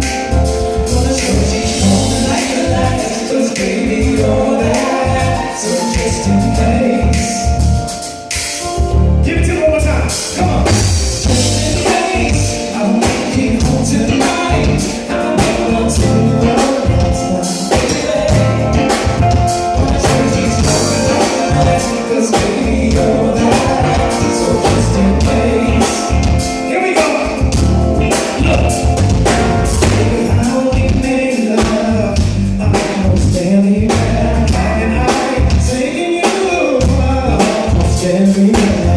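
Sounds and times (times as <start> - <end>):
heavy bass: 0.0 - 3.2, 3.8 - 35.9, 36.8 - 38.9
live band music: 0.0 - 38.9
steady drum beat: 0.0 - 38.9
person singing: 0.1 - 8.3, 9.3 - 29.2, 29.8 - 38.9.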